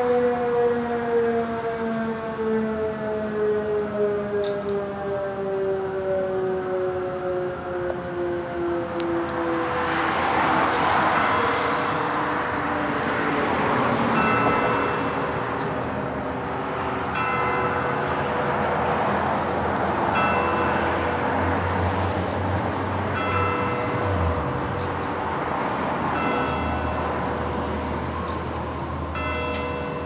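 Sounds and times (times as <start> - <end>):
warning siren steady alert tone: 0.0 - 30.0.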